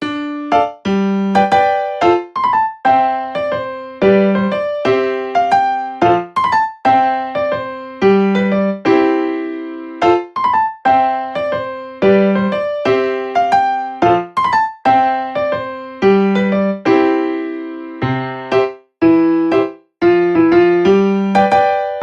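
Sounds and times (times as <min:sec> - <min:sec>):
keyboard melody: 0:00.0 - 0:22.0.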